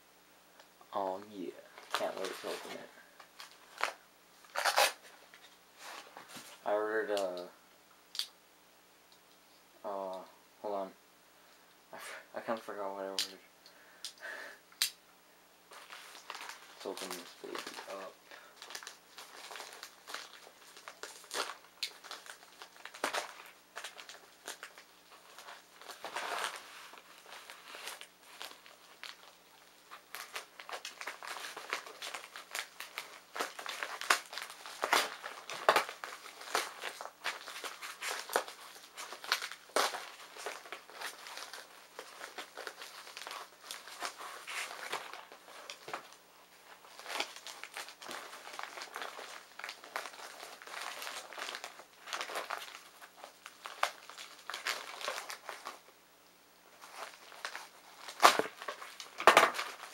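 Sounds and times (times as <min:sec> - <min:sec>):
packing paper crinkling: 0:01.0 - 0:07.5, 0:15.7 - 0:55.9, 0:56.7 - 0:59.9.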